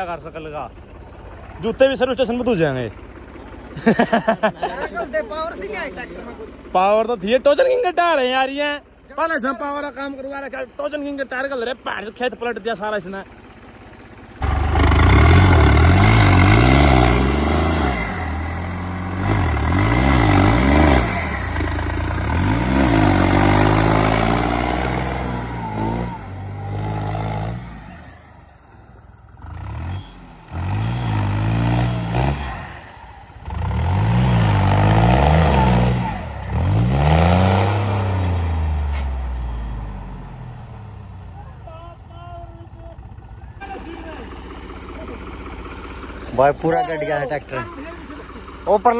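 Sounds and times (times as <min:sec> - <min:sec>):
diesel tractor engine revving: 0:00.0 - 0:09.0, 0:09.8 - 0:48.9.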